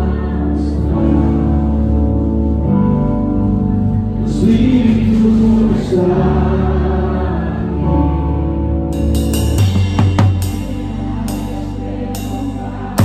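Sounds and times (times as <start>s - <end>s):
people singing worship music: 0.0s - 13.0s
sustained chords and bass: 0.0s - 13.0s.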